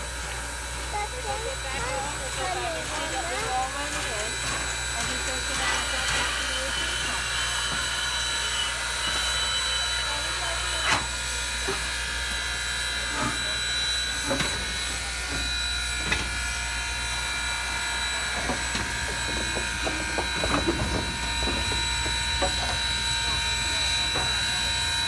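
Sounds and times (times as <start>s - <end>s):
steam locomotive whine and hiss: 0.0s - 25.0s.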